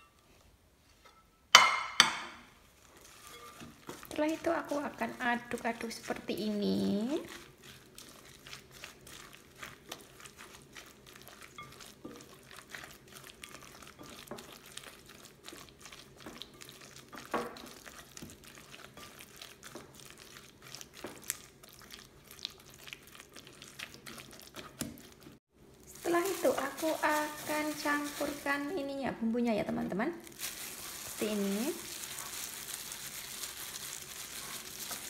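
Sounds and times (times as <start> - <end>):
spatula stirring wet paste: 2.7 - 28.8, 30.4 - 35.0.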